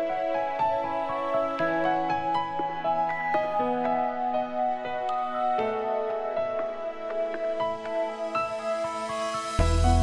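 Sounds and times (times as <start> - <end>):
gentle new-age instrumental music: 0.0 - 10.0.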